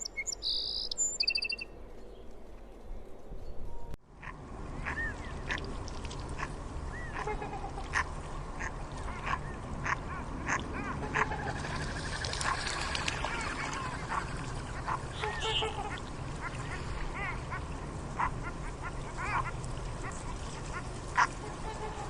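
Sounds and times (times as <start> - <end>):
steady background noise: 1.8 - 22.0.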